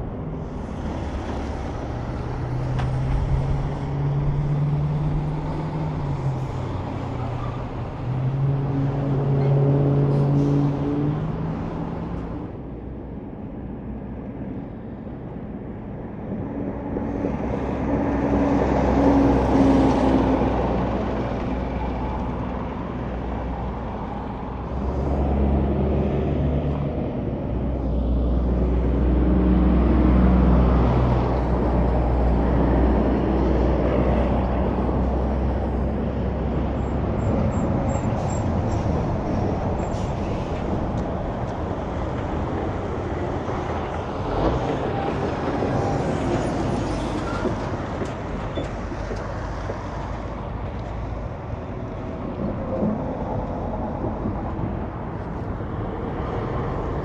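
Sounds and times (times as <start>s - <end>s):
semi trucks passing: 0.0s - 57.0s.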